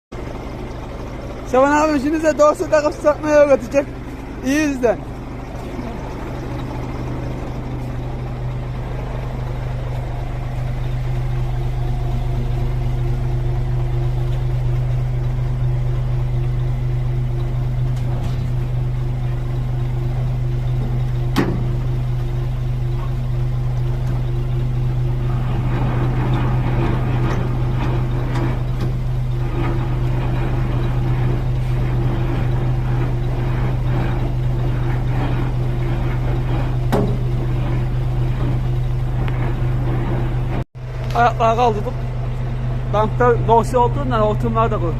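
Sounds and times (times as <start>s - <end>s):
diesel engine idling: 0.1s - 44.9s
metallic rattling and knocks: 0.6s - 40.6s.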